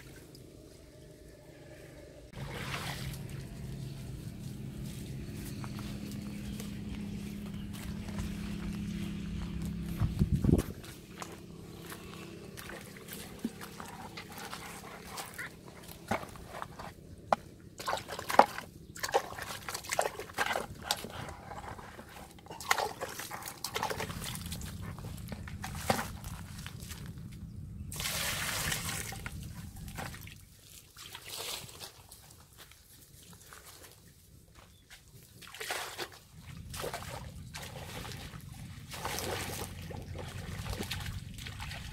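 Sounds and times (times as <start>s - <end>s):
water sloshing and splashing: 0.0s - 0.8s, 2.3s - 34.2s, 35.1s - 41.9s.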